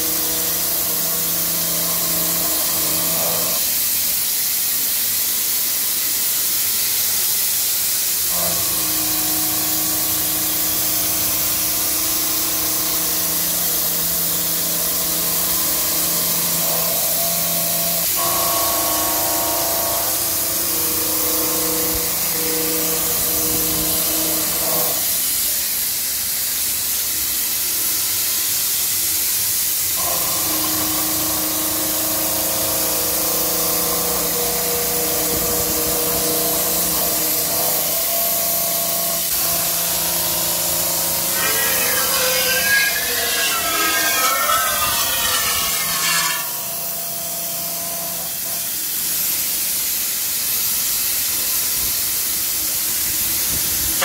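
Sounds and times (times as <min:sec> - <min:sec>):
milling machine hiss: 0:00.0 - 0:54.0.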